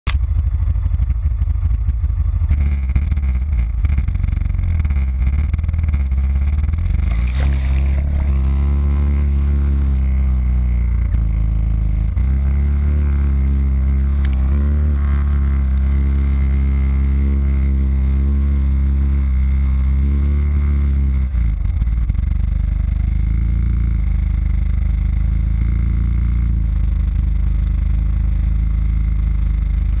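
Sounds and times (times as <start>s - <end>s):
quad bike engine revving: 0.1s - 30.0s.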